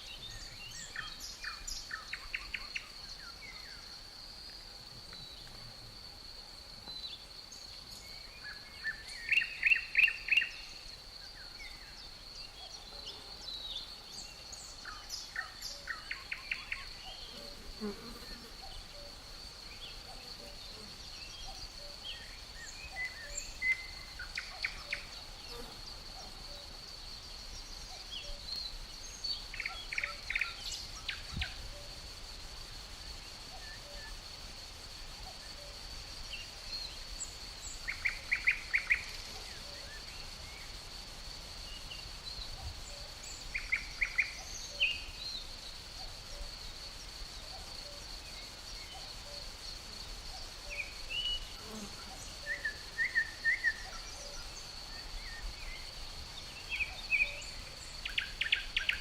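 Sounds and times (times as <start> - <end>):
crickets trilling: 0.0 - 59.0
songbirds chirping: 0.0 - 59.0.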